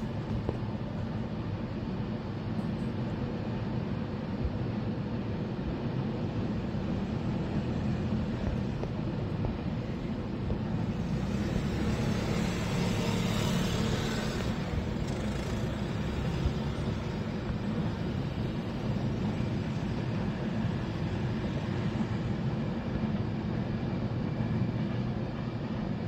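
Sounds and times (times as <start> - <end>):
freight train rumbling: 0.0 - 26.0.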